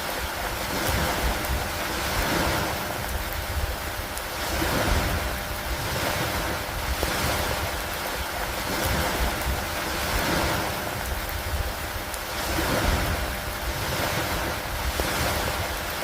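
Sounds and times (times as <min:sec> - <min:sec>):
lake water: 0:00.0 - 0:16.0
rain on a wooden dock: 0:00.0 - 0:16.0
wind: 0:00.0 - 0:16.0.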